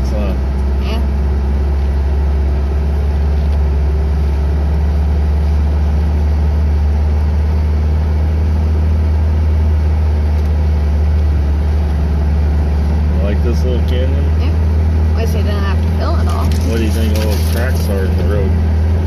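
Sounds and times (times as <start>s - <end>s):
car engine drone from inside: 0.0s - 19.0s.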